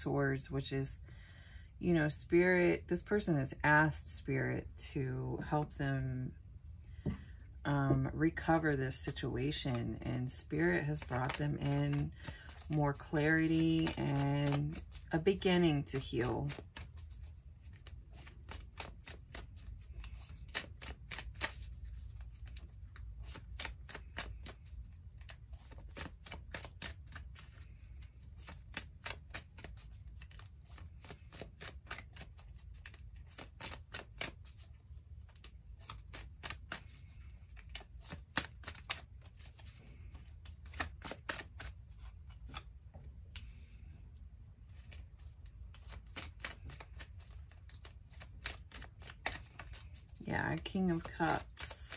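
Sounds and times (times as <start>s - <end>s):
low steady hum: 0.0s - 51.9s
cards being shuffled: 8.9s - 43.7s, 44.6s - 51.9s.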